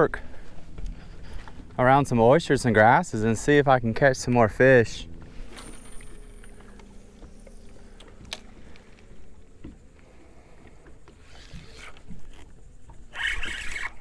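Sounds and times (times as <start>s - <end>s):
faint hum: 0.0s - 14.0s
water lapping against boat hull: 0.0s - 14.0s.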